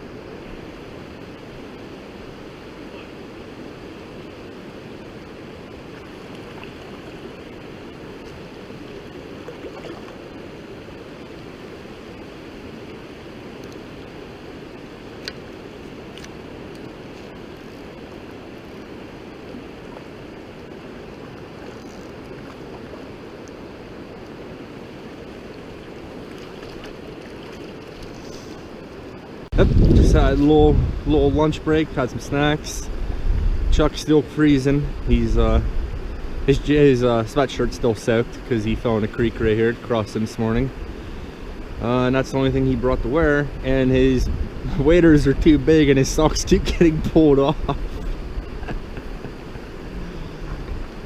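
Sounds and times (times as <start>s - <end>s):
river water rushing: 0.0s - 42.3s, 44.3s - 51.0s.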